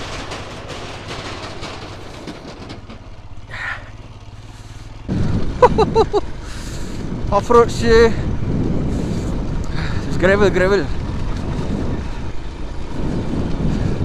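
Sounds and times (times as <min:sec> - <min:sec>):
motorcycle engine riding off: 0:00.0 - 0:14.0
wind: 0:00.0 - 0:14.0.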